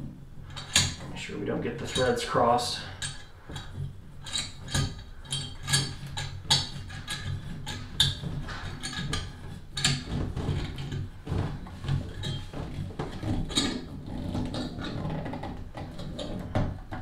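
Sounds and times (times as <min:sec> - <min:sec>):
metal spout clicking and scraping: 0:00.0 - 0:17.0.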